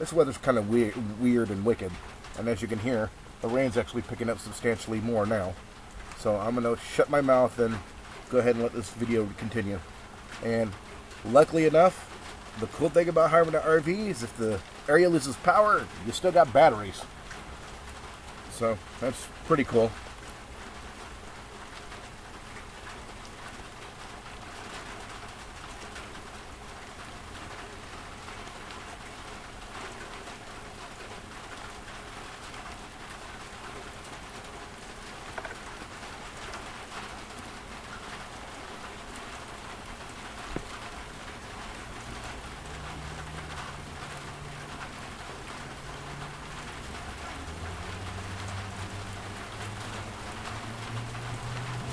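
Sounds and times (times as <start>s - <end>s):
heavy rain on vehicle roof: 0.0s - 51.9s.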